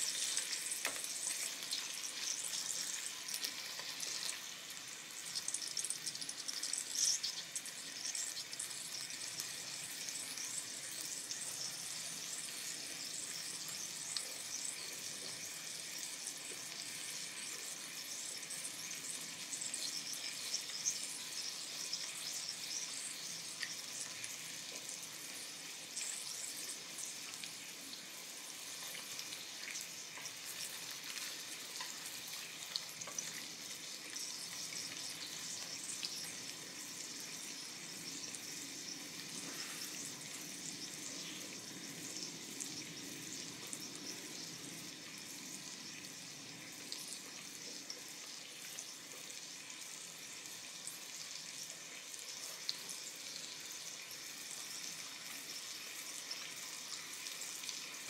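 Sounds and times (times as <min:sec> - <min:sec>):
steak sizzling on a griddle: 0:00.0 - 0:58.0.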